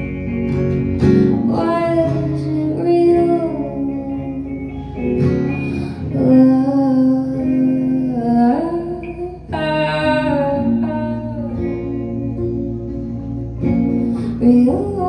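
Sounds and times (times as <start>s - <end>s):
guitar: 0.0s - 15.0s.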